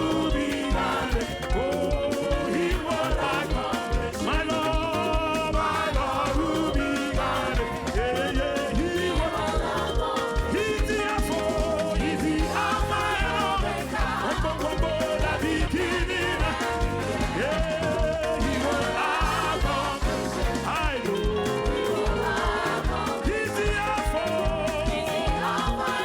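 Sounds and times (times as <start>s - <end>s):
driving drum beat: 0.0s - 26.0s
gospel praise band music: 0.0s - 26.0s.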